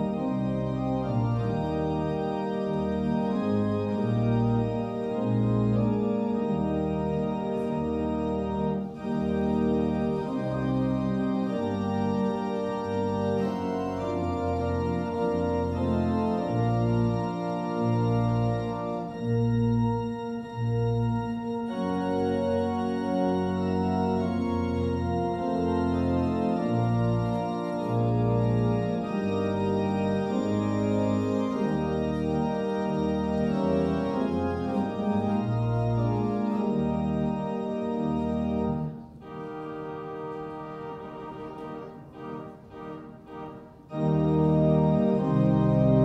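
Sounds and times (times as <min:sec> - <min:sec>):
organ playing slow music: 0:00.0 - 0:46.0.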